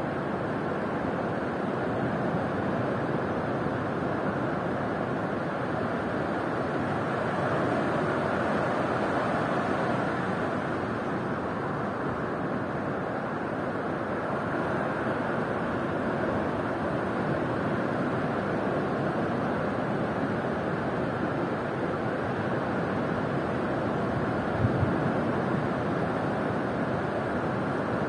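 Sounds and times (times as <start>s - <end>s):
ocean waves breaking on shore: 0.0s - 28.0s.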